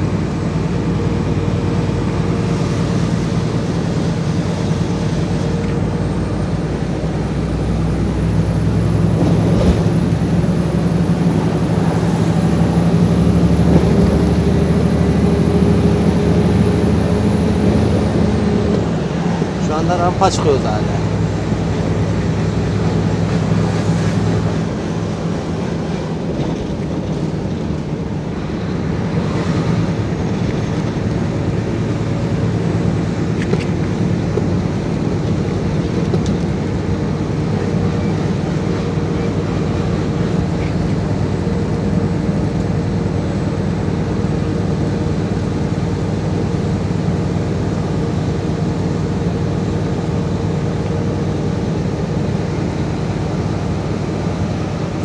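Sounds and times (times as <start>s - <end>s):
diesel truck engine drone: 0.0s - 55.0s
tyre and road noise: 0.0s - 55.0s.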